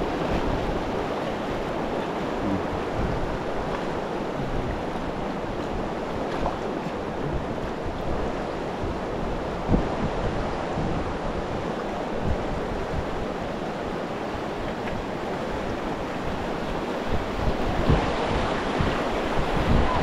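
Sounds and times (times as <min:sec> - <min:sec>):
rushing river water: 0:00.0 - 0:20.0
wind buffeting microphone: 0:00.0 - 0:20.0.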